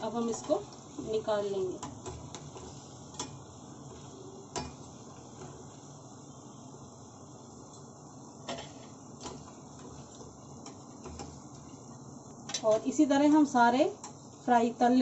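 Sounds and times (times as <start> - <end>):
deep-frying oil sizzling: 0.0 - 15.0.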